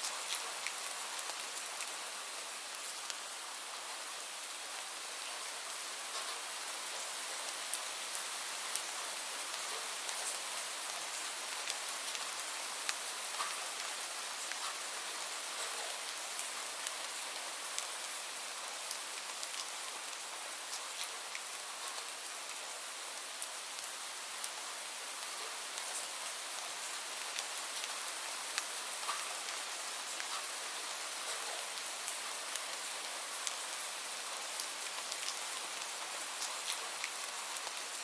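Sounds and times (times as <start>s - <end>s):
steady rain hissing: 0.0s - 38.0s.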